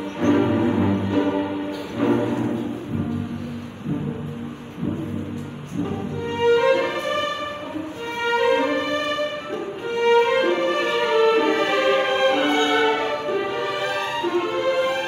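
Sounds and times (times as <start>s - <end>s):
string orchestra playing: 0.0s - 15.0s.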